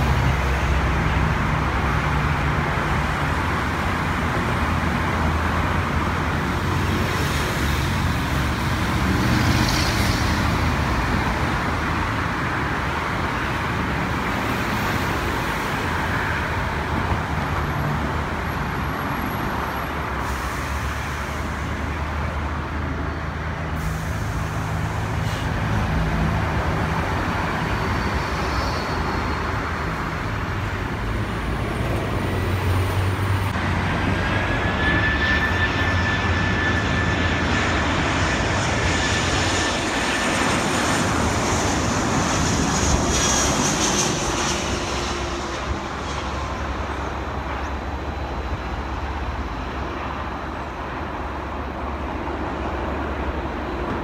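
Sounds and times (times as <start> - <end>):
cars and buses driving past: 0.0 - 54.0.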